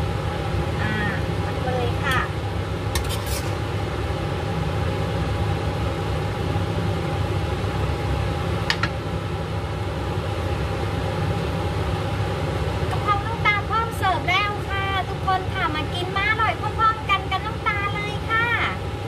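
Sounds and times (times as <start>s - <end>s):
whirring hum: 0.0s - 19.0s.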